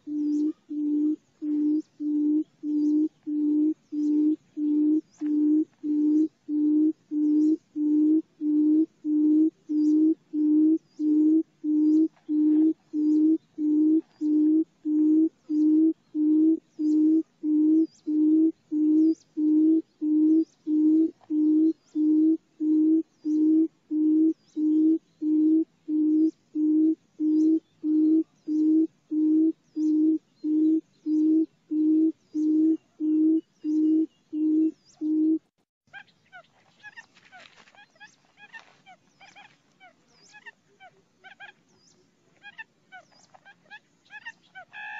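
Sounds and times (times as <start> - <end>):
buttonquail booming hoots: 0.0 - 36.0.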